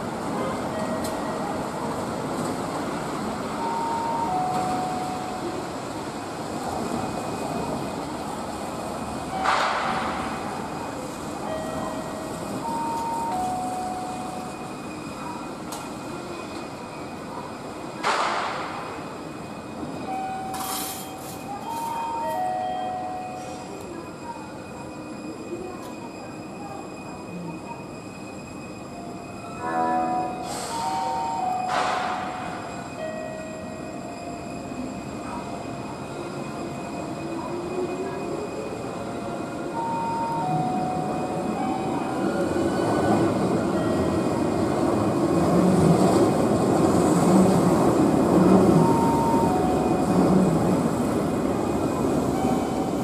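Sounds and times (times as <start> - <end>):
street traffic: 0.0 - 53.0
tram running on track: 0.0 - 53.0.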